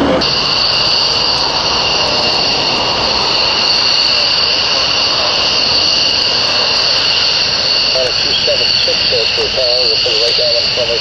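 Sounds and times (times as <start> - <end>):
jet engines running with whine: 0.0 - 11.0.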